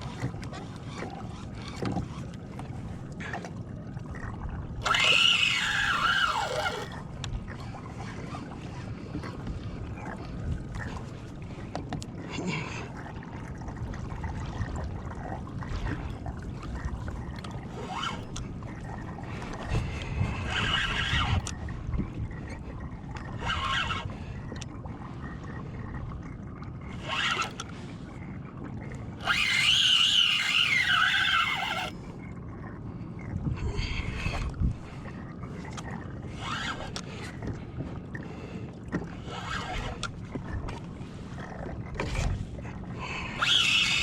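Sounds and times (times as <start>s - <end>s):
water: 0.0s - 44.0s
wind: 0.0s - 44.0s.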